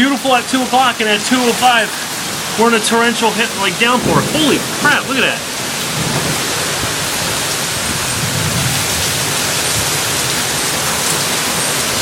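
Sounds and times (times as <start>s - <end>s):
torrential rain pouring: 0.0s - 12.0s.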